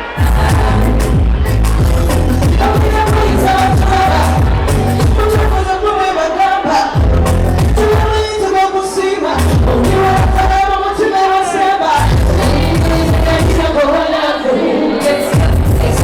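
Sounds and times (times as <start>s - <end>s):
pop song with heavy bass beat: 0.0s - 16.0s.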